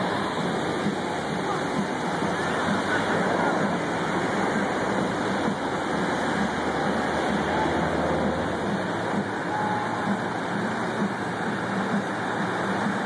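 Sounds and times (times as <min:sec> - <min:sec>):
fountain water falling: 0:00.0 - 0:13.0
road traffic: 0:00.0 - 0:13.0.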